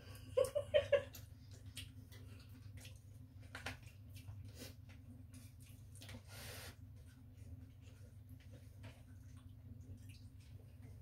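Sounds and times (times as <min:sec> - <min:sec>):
chewing: 0:01.1 - 0:11.0.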